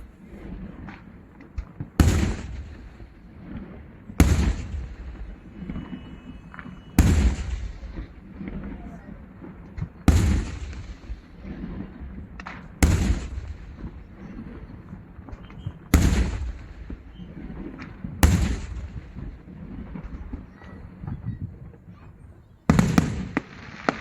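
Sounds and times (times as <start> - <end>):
firework bangs with echo: 0.0 - 21.3, 22.7 - 24.0
small firework pops: 0.8 - 8.9, 9.5 - 21.7, 22.7 - 24.0.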